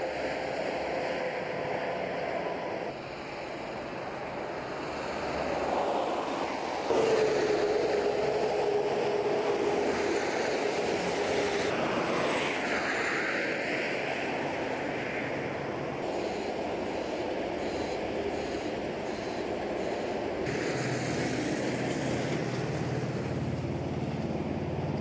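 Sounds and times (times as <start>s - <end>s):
rush of passing vehicles: 0.0s - 25.0s
steady engine hum: 0.0s - 25.0s.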